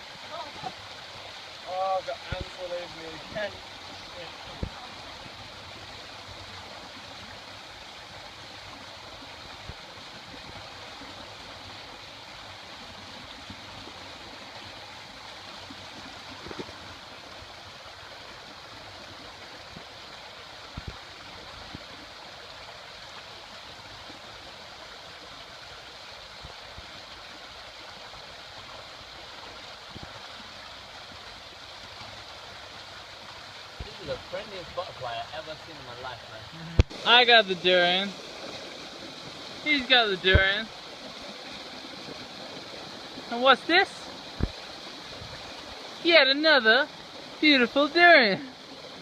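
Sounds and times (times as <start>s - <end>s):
flowing water rushing: 0.0s - 49.0s.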